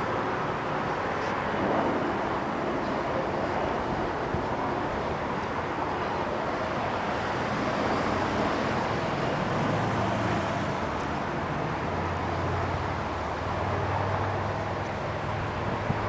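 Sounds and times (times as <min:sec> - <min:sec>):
low engine hum: 0:00.0 - 0:16.0
motor vehicle noise: 0:00.0 - 0:16.0.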